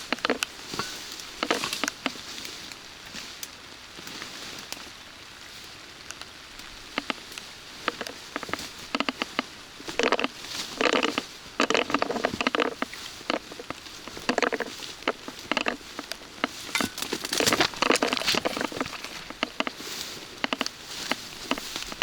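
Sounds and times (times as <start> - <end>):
crackling taps: 0.0 - 4.8, 6.0 - 22.0
rain pattering: 0.0 - 22.0.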